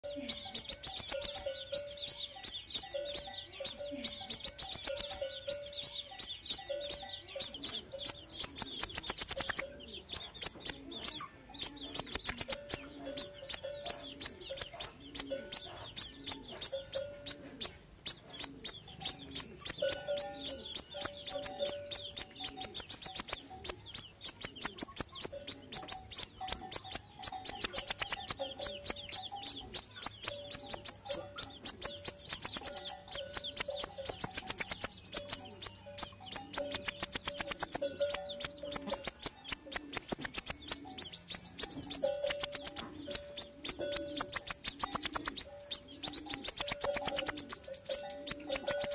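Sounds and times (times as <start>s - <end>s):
bird chipping trills: 0.0s - 48.9s.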